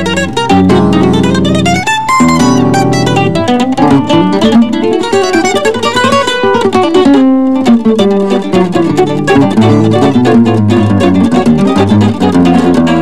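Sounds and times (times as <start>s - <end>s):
acoustic guitar: 0.0s - 13.0s
mandolin melody: 0.0s - 13.0s.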